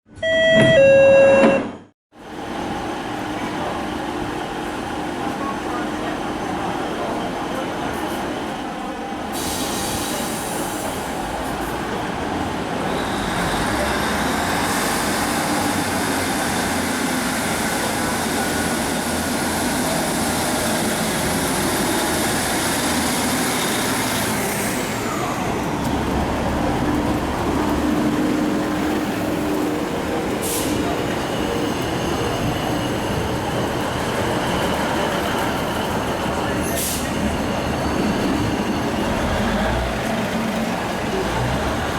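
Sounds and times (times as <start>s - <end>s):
passenger train rumbling past: 2.2s - 41.9s.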